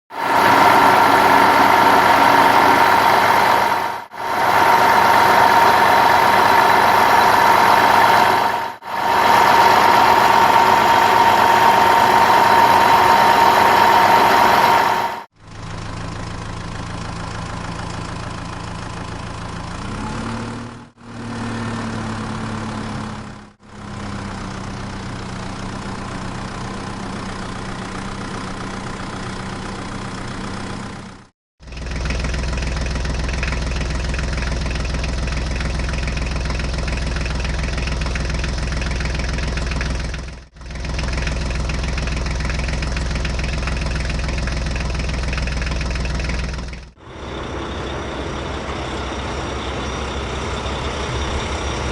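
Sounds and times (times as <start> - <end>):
vehicle engine running: 0.1 - 51.9.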